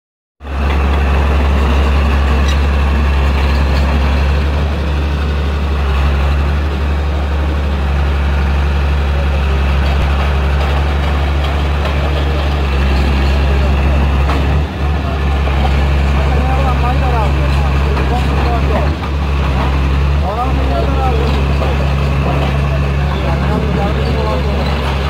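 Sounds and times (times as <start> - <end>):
vehicle engine running: 0.4 - 25.0.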